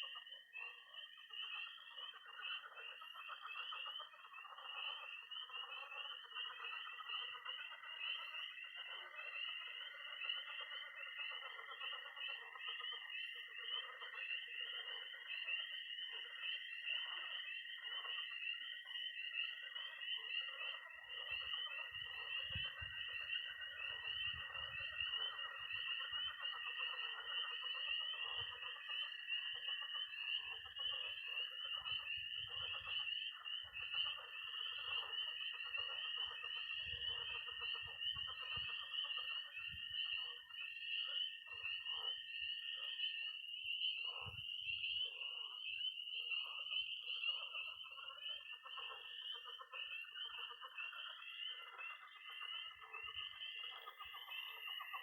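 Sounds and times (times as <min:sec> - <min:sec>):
frogs croaking: 0:00.0 - 0:55.0
spring peepers peeping: 0:00.0 - 0:55.0.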